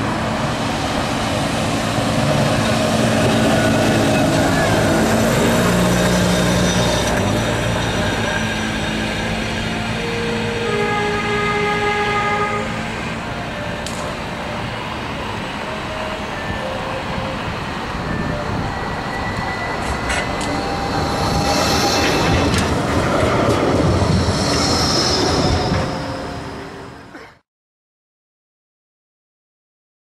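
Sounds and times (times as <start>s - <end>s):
tram wheels on rails passing: 0.0s - 27.2s
tram moving off with a whine: 0.0s - 27.4s.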